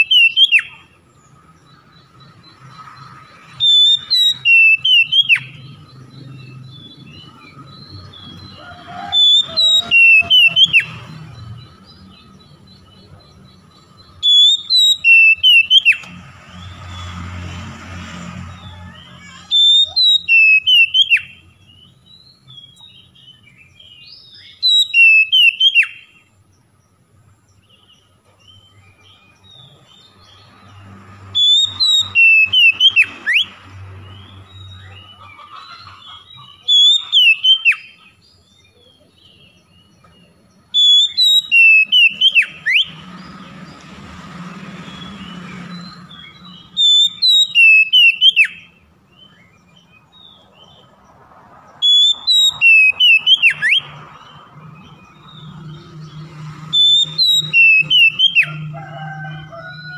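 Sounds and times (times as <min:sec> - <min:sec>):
songbird singing whistled notes: 0:00.0 - 0:17.1, 0:18.5 - 0:26.6, 0:27.5 - 0:43.9, 0:44.8 - 0:50.9, 0:51.8 - 0:58.7.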